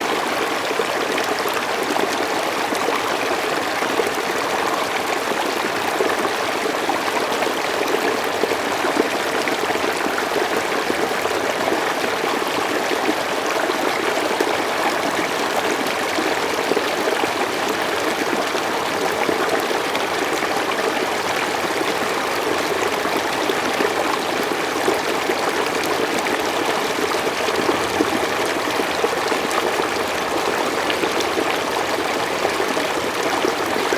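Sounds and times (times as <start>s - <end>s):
water flowing and trickling: 0.1s - 33.9s.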